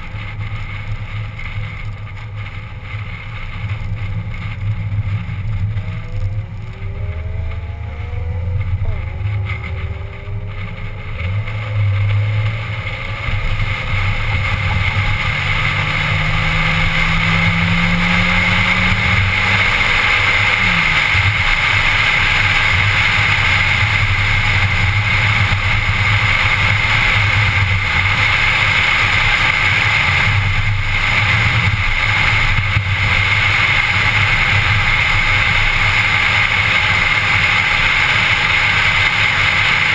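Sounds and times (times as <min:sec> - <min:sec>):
car engine pulling hard: 0:00.0 - 0:39.9
road and wind noise: 0:00.0 - 0:39.9.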